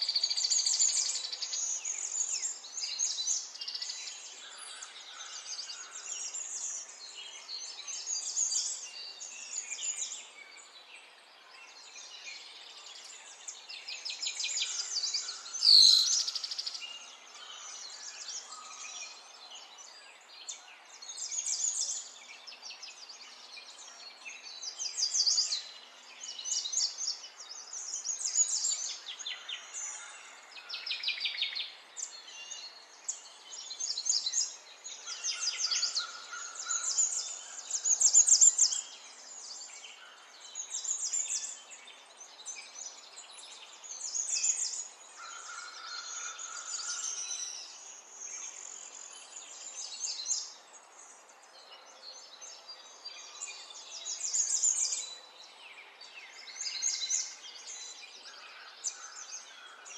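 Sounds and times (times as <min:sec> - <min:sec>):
small birds twittering: 0:00.0 - 0:59.9.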